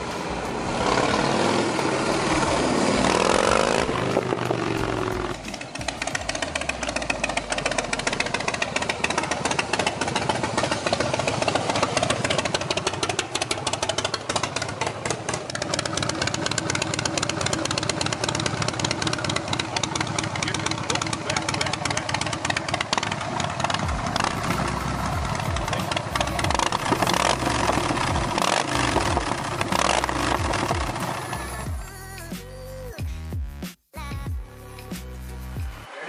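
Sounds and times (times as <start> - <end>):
motorcycle engine running: 0.0 - 32.4.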